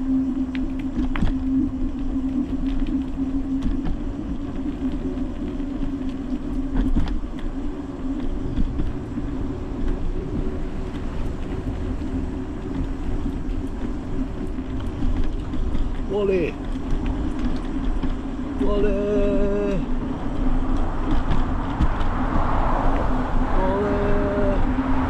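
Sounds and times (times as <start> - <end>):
bicycle road noise coasting downhill: 0.0 - 25.0.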